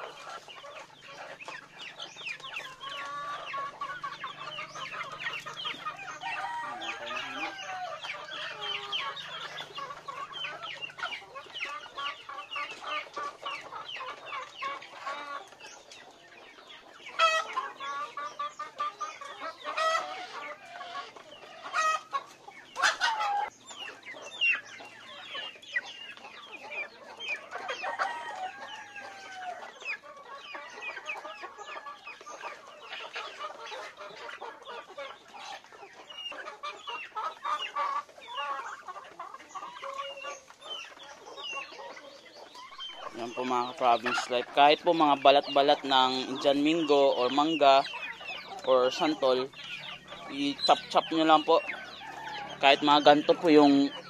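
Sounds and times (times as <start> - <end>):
chickens clucking: 0.0 - 54.0
chicks peeping: 0.0 - 54.0.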